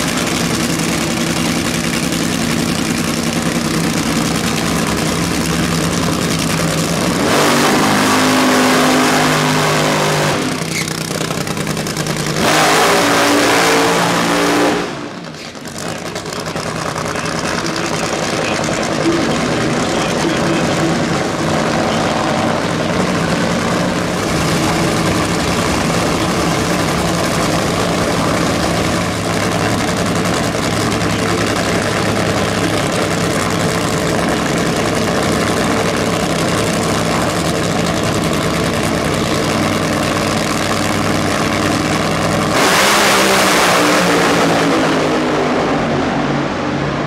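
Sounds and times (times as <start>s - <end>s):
drag racing engines revving: 0.0s - 47.0s.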